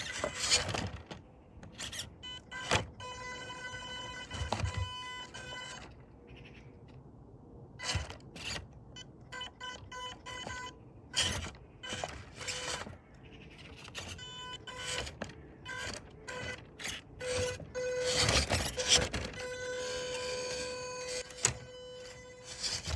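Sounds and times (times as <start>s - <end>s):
toy car motor whining: 0.0s - 6.0s, 7.8s - 22.9s.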